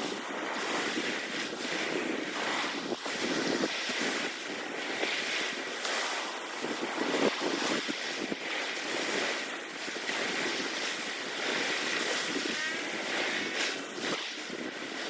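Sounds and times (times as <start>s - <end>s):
waves: 0.0s - 15.0s
wind: 0.0s - 15.0s.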